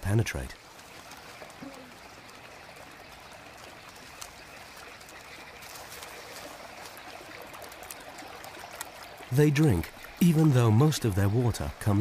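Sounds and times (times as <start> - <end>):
shallow stream trickling: 0.0 - 12.0.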